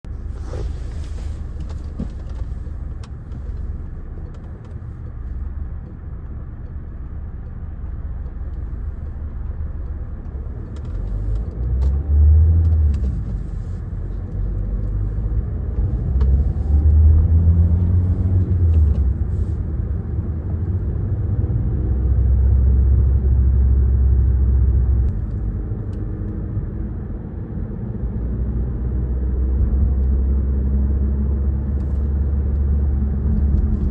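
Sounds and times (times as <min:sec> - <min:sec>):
tyre and road noise: 0:00.0 - 0:33.9.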